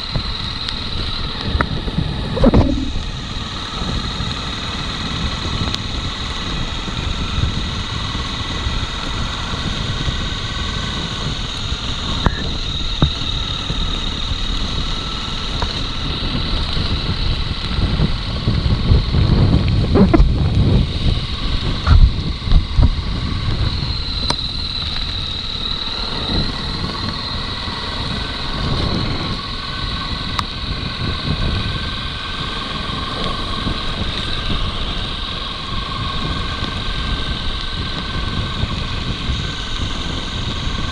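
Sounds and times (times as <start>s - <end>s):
motorcycle engine rumble: 0.0s - 40.9s
wind noise on microphone: 0.0s - 40.9s.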